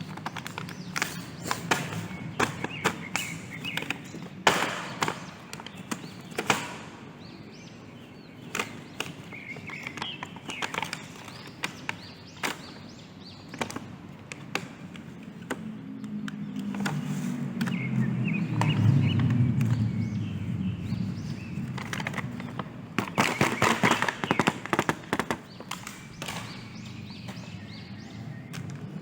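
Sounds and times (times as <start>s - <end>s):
packaging clicks and taps: 0.0s - 6.8s, 8.4s - 20.0s, 20.9s - 29.0s.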